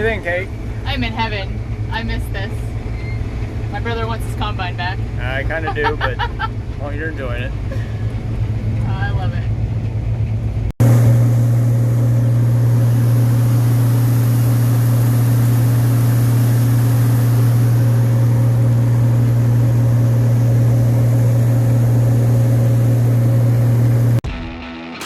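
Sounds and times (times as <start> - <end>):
combine harvester low hum: 0.0 - 24.2.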